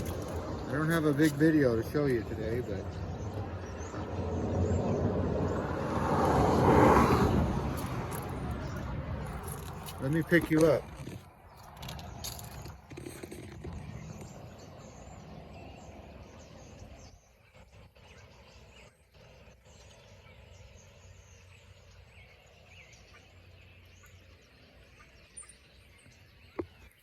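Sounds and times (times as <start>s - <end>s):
small birds chirping: 0.0s - 5.6s, 6.9s - 27.0s
road traffic rumbling: 0.0s - 24.9s.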